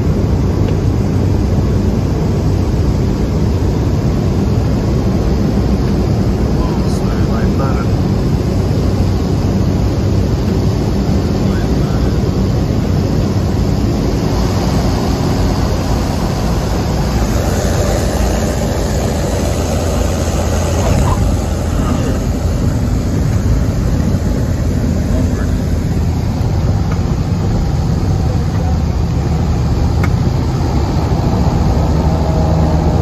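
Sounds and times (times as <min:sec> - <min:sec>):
turboprop engine droning: 0:00.0 - 0:33.0.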